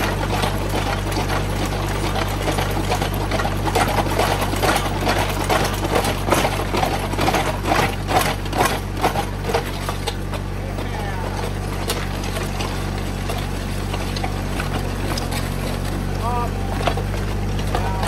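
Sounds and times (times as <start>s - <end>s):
auger bit grinding on stones: 0.0s - 18.0s
tractor engine running: 0.0s - 18.0s.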